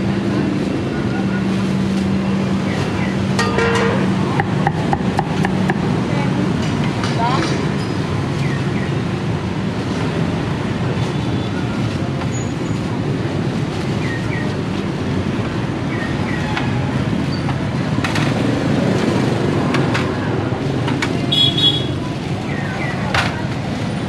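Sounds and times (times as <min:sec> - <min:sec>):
street traffic noise: 0:00.0 - 0:24.0.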